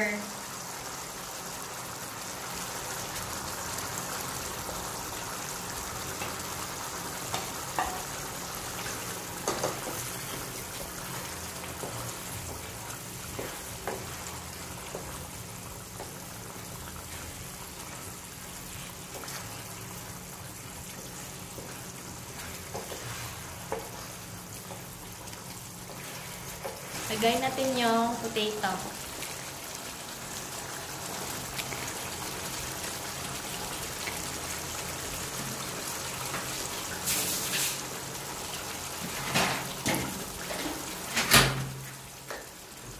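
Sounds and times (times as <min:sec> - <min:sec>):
sauce simmering and sizzling in a pan: 0:00.0 - 0:42.9.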